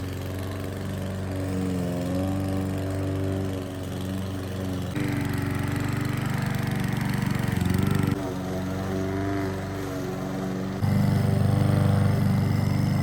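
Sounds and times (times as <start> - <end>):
petrol lawn mower engine running: 0.0 - 13.0.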